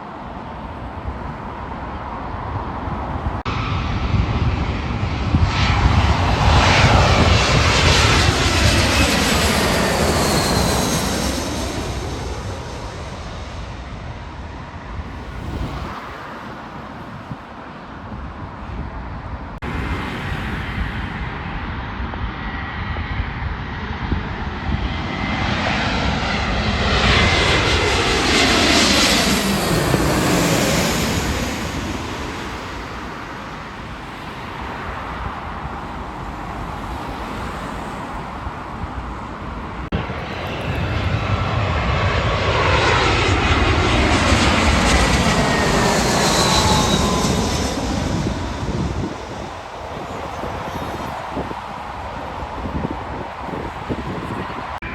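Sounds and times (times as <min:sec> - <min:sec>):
jet airliner passing: 0:00.0 - 0:54.9.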